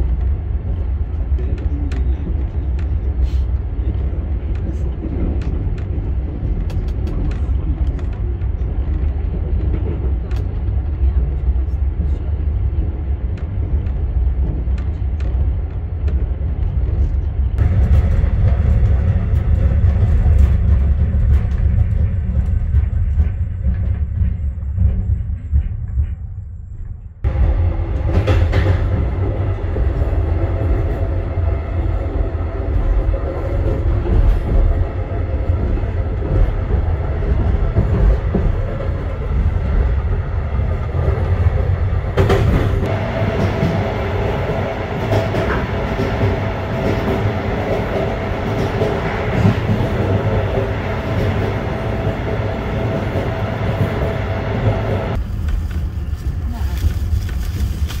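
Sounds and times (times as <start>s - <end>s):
train rumble and rattle: 0.0s - 58.0s.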